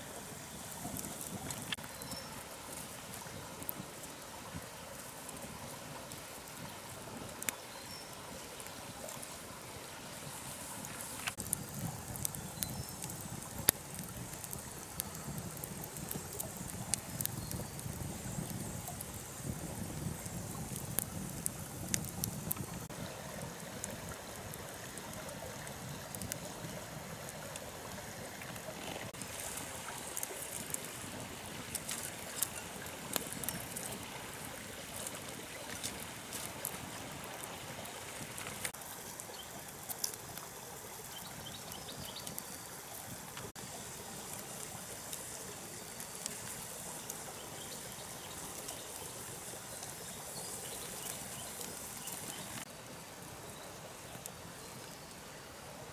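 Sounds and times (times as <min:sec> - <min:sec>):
campfire crackling: 0:00.0 - 0:55.9
steady hiss of fire: 0:00.0 - 0:55.9.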